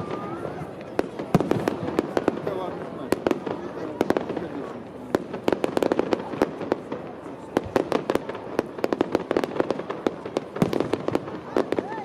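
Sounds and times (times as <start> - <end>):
fireworks cracks and bangs: 0.0 - 12.0.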